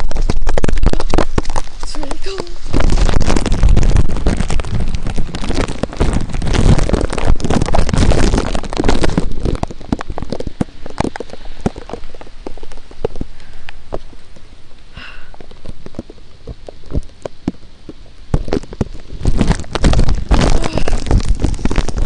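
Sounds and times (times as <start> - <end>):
heavy low rumble: 0.0 - 22.0
rain falling: 0.0 - 22.0.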